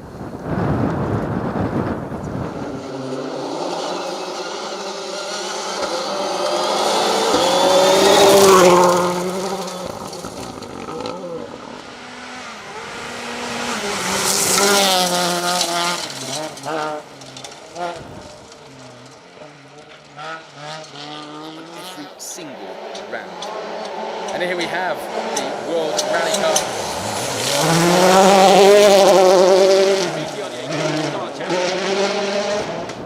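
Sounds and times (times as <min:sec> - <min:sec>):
rally car passing at full throttle: 0:00.0 - 0:33.0.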